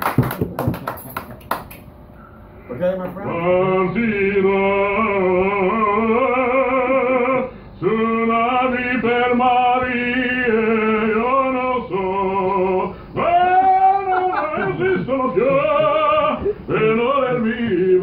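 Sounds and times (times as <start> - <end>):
man singing with vibrato: 3.2 - 18.0.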